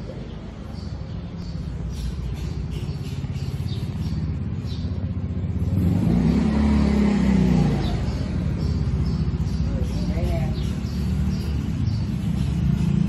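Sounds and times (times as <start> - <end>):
motor vehicle engine rumble: 0.0 - 13.0.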